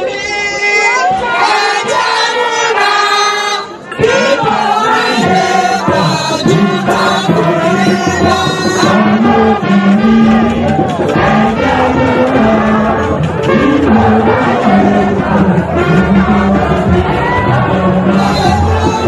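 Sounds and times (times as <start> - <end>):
crowd singing along: 0.0 - 19.0.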